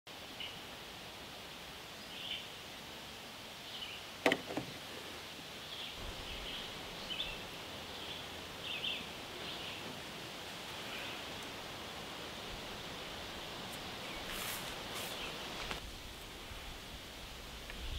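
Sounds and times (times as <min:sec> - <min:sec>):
low hiss: 0:00.1 - 0:17.9.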